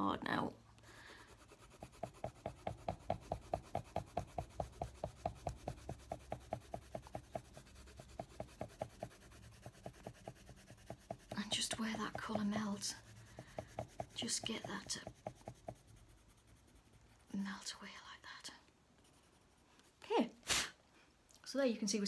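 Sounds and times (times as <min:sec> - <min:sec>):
pencil shading on paper: 0:00.8 - 0:18.0, 0:19.0 - 0:19.9.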